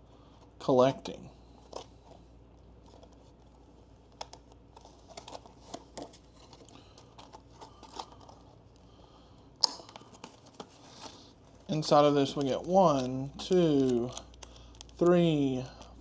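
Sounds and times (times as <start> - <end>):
box and plastic wrapping handled: 1.5 - 8.8, 9.6 - 15.9.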